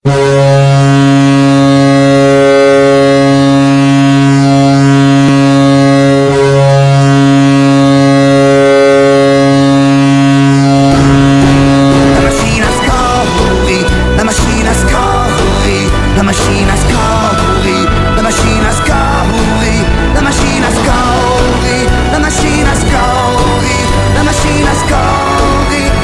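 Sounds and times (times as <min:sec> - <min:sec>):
deep air horn blast: 0:00.0 - 0:26.0.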